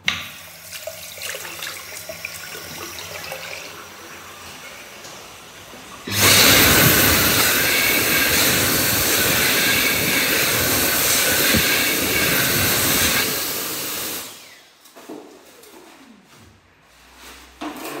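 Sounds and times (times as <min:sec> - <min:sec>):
hand dryer blowing with whine: 0:00.0 - 0:14.8.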